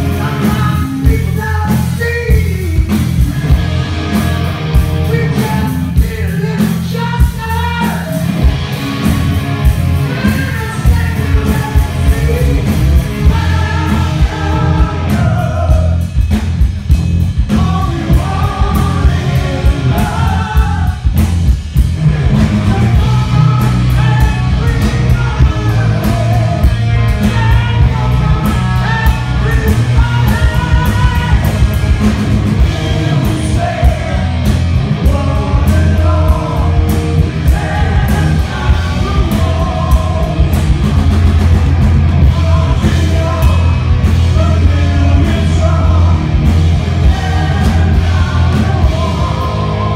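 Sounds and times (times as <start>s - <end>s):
man singing lead vocal: 0.0s - 3.6s, 4.9s - 8.5s, 10.0s - 16.3s, 17.4s - 21.2s, 22.2s - 41.1s, 42.0s - 49.9s
bass guitar: 0.0s - 49.9s
electric guitar: 0.0s - 49.9s
pounding drum kit: 0.0s - 49.9s.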